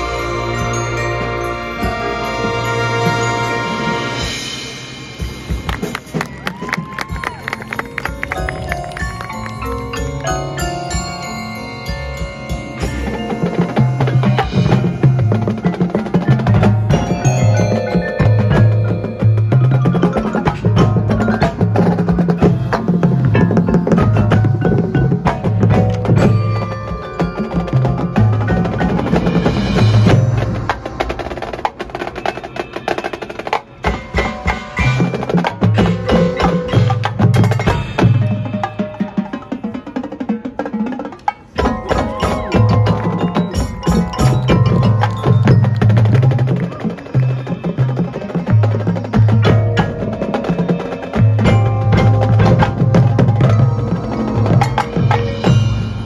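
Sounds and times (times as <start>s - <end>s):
mallet percussion ringing: 0.0s - 4.9s, 7.5s - 31.2s, 33.8s - 40.7s, 41.3s - 56.0s
marching band playing: 0.0s - 56.0s
drum and woodblock hits: 5.2s - 56.0s.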